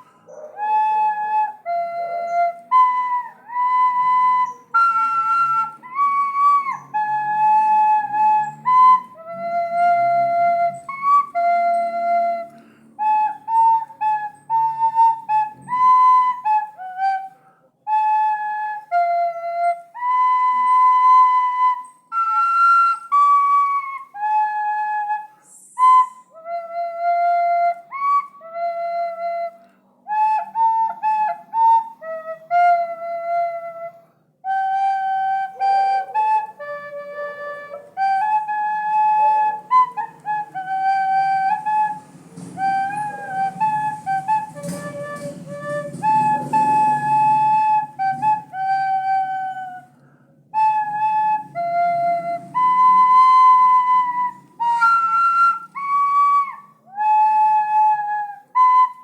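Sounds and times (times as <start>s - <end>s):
faint low accompaniment: 0.0s - 59.0s
solo flute melody: 0.0s - 59.0s.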